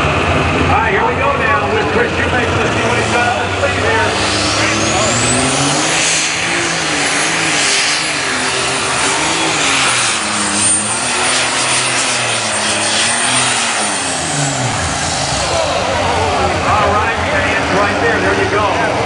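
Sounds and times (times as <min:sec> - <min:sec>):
high whine: 0:00.0 - 0:19.0
tractor engine at full power: 0:00.0 - 0:19.0.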